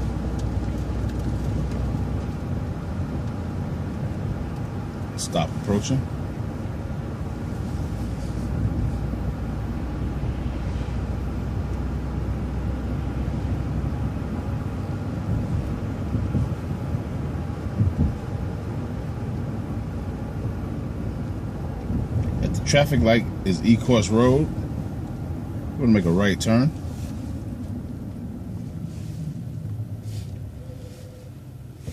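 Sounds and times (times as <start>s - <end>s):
bus engine and road rumble: 0.0s - 31.9s.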